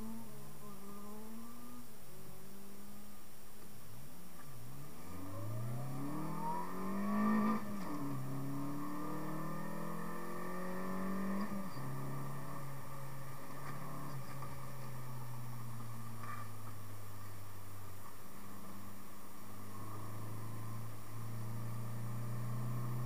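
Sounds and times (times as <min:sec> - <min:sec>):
car engine revving: 0:00.0 - 0:03.3, 0:04.2 - 0:23.0.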